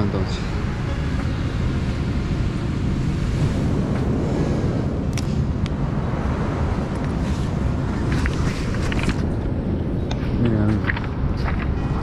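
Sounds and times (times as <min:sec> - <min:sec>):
surf rushing: 0:00.0 - 0:12.0
wind buffeting microphone: 0:00.0 - 0:12.0.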